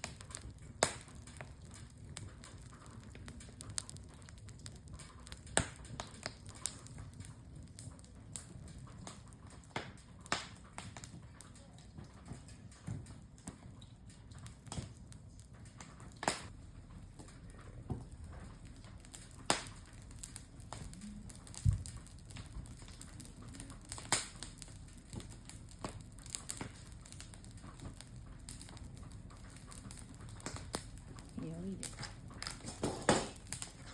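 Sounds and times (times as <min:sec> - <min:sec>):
campfire wood crackling: 0:00.0 - 0:33.9.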